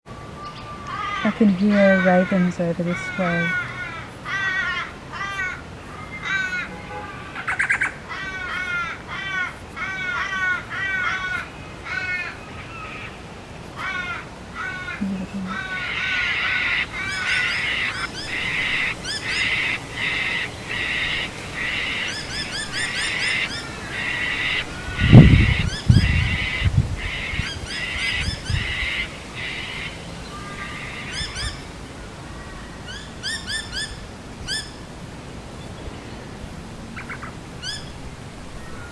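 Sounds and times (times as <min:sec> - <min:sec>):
chorus of high-pitched bird calls: 0:00.2 - 0:13.2, 0:13.8 - 0:34.8, 0:36.9 - 0:38.9
ravens calling: 0:00.4 - 0:35.0, 0:36.4 - 0:38.9.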